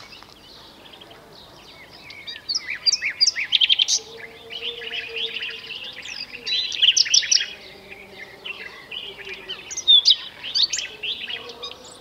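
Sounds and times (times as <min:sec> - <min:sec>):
nightingale singing: 0:00.0 - 0:12.0.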